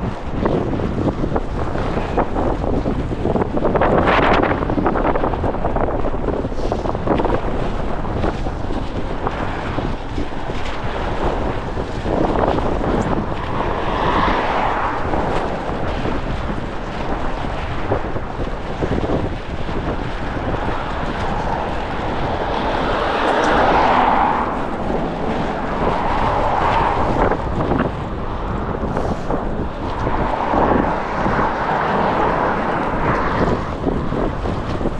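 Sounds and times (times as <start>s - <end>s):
gusty wind buffeting microphone: 0.0s - 34.9s
vehicles passing on road: 0.0s - 34.9s.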